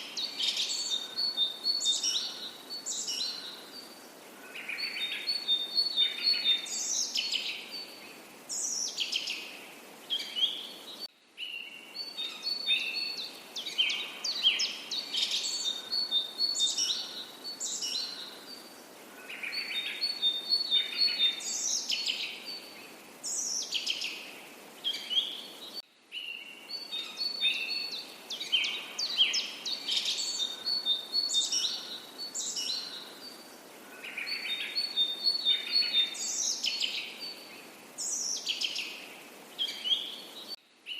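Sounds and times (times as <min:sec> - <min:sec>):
faint steady hiss: 0:00.0 - 0:40.9
songbirds singing and calling: 0:00.0 - 0:40.9.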